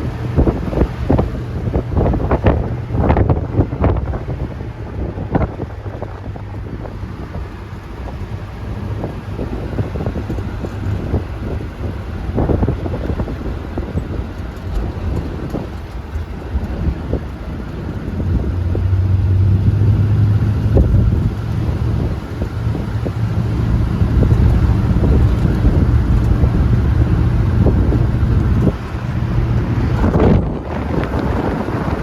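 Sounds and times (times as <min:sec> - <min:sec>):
car engine humming: 0:00.0 - 0:32.0
wind buffeting microphone: 0:00.0 - 0:32.0.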